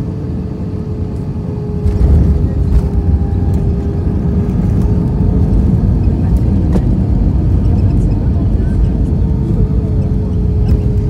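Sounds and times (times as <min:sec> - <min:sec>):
wheels rumbling on runway: 0:00.0 - 0:11.0.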